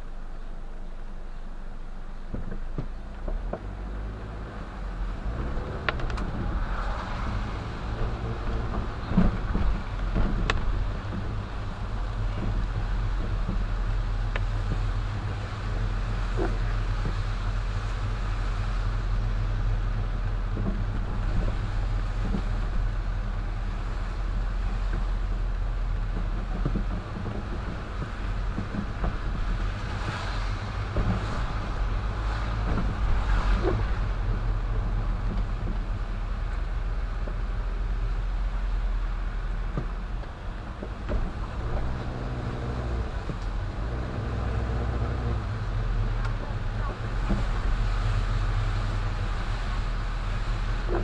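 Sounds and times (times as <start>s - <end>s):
car engine and road drone: 0.0s - 51.0s
tyres hissing on wet pavement: 0.0s - 51.0s.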